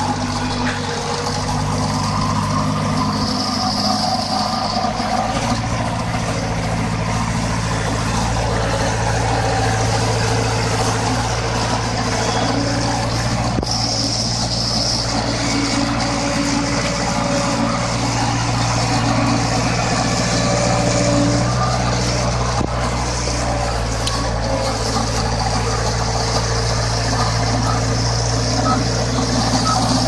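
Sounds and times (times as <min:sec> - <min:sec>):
forklift engine running: 0:00.0 - 0:30.0.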